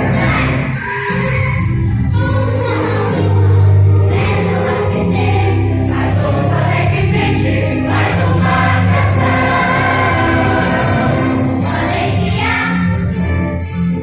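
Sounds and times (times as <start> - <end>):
choir singing: 0.0 - 1.5, 2.1 - 13.0
instrumental accompaniment: 0.0 - 14.0.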